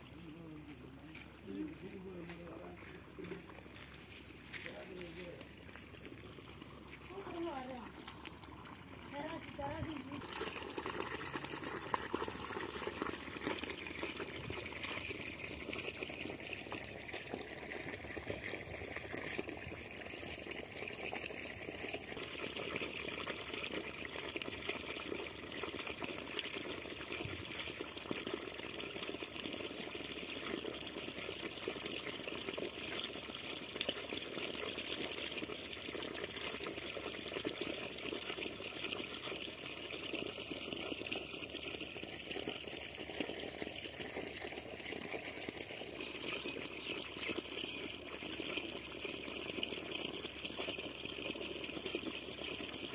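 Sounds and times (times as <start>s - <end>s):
hose water pouring into puddle: 0.0s - 52.9s.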